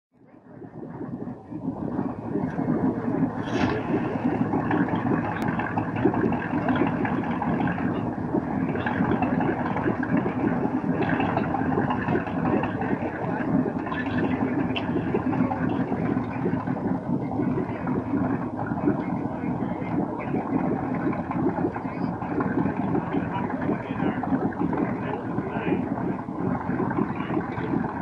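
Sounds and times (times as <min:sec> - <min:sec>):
boat engine running steadily: 0:00.1 - 0:28.0.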